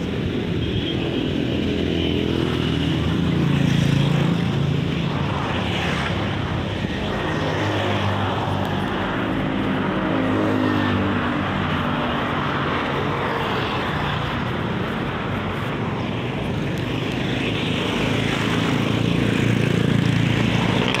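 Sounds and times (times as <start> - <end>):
motorcycle engines passing: 0.0 - 21.0
traffic rumble: 0.0 - 21.0.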